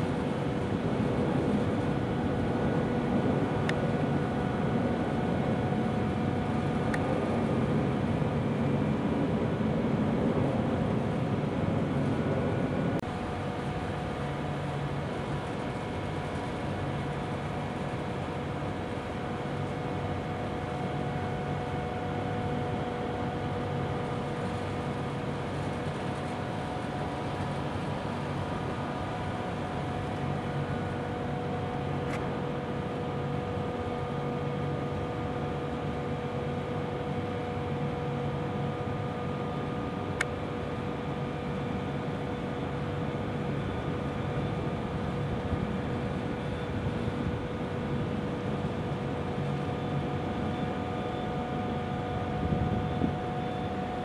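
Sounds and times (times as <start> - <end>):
aircraft cabin hum and whine: 0.0 - 54.0.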